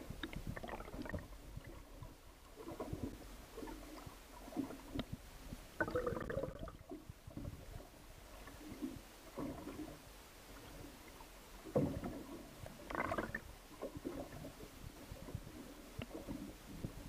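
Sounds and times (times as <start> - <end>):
underwater gurgling water: 0.0 - 17.0.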